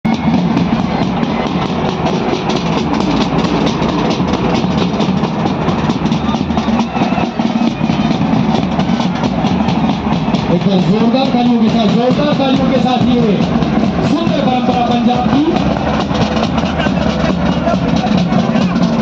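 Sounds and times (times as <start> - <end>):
driving drum beat: 0.0 - 19.0
loud bhangra music: 0.0 - 19.0.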